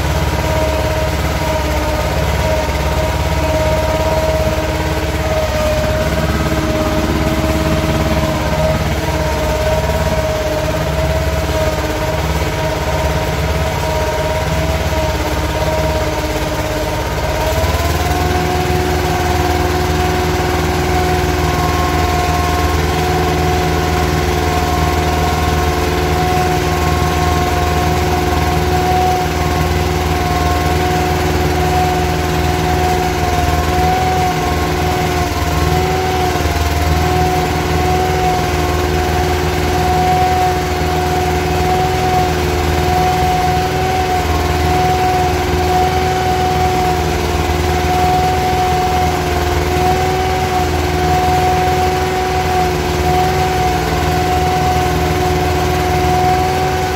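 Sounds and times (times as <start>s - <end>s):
steady whine: 0.0s - 56.9s
tractor engine running: 0.0s - 56.9s.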